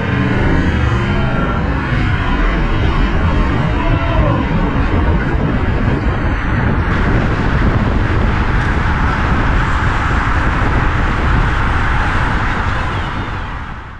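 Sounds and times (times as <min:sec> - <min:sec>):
wind rushing over microphone: 0:00.0 - 0:13.9.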